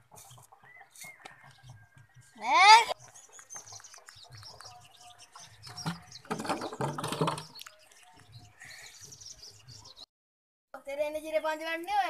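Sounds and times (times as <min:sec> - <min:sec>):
birds chirping: 0:00.0 - 0:10.1.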